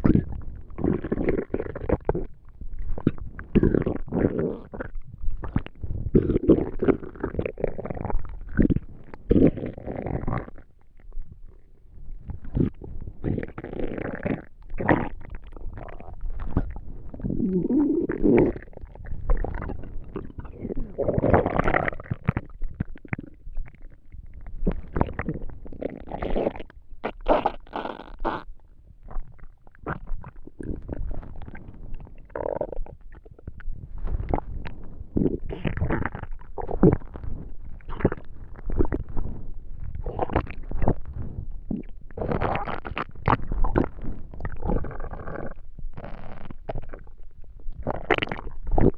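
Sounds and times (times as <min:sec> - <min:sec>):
stomach gurgling: 0:00.0 - 0:48.9.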